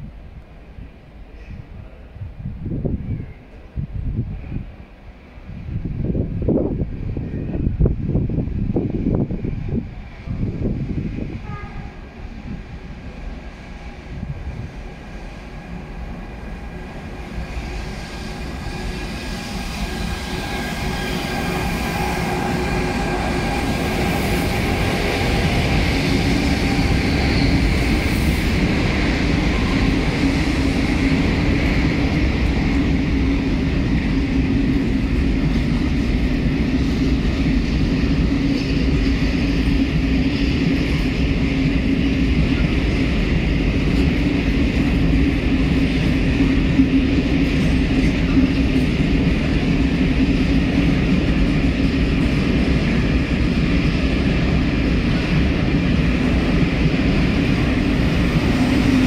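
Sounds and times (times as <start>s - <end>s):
electric locomotive whine: 0.0s - 59.0s.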